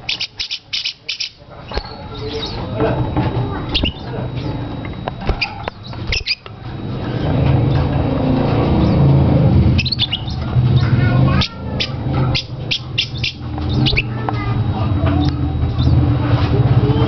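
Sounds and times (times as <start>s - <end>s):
pet birds squawking and chirping: 0.0s - 2.8s, 3.6s - 4.7s, 5.3s - 17.0s.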